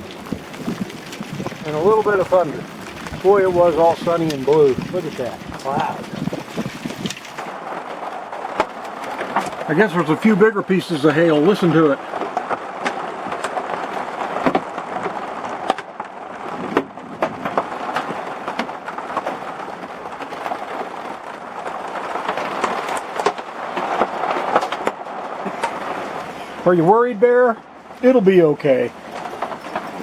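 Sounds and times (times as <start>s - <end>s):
hailstones clicking on hard surfaces: 0.0s - 30.0s
rain hissing: 0.0s - 30.0s.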